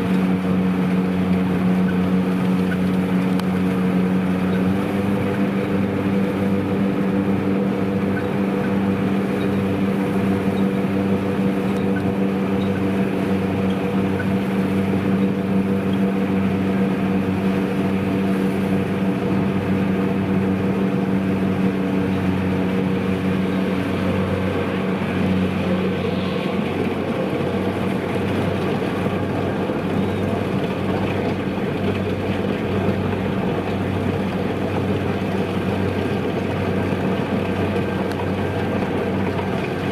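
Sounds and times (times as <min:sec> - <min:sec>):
combine harvester engine running: 0:00.0 - 0:39.9
machinery hum: 0:00.0 - 0:39.9.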